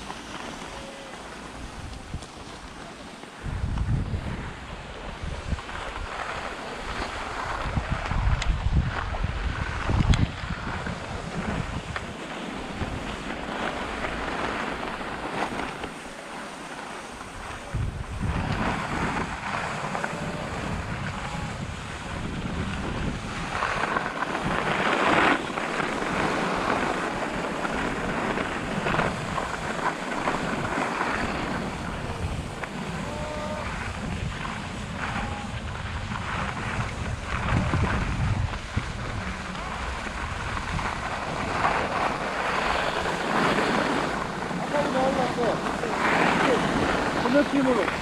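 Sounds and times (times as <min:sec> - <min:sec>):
skis scraping packed snow: 0:00.0 - 0:48.0
wind buffeting microphone: 0:00.0 - 0:48.0.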